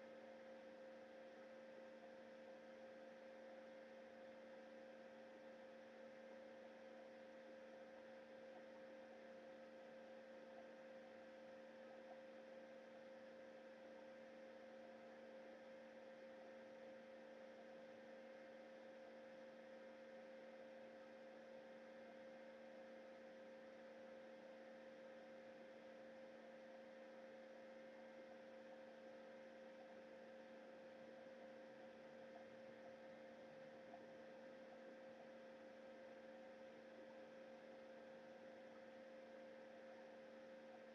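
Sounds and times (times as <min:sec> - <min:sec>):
faint electrical hum and whine: 0:00.0 - 0:40.9.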